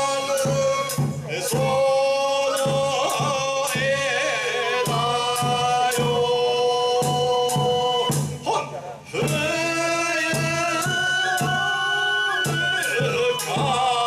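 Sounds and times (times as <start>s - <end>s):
sharp percussive strikes: 2.6s - 14.0s.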